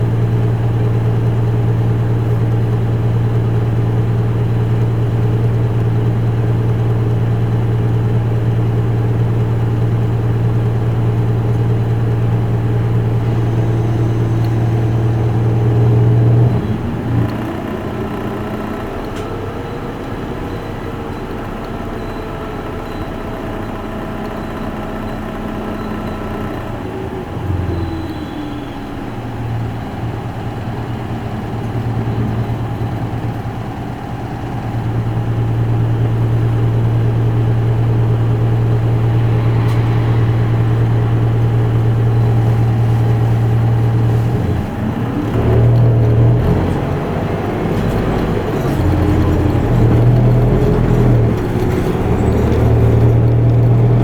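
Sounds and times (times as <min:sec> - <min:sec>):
bus diesel engine from inside: 0:00.0 - 0:54.0.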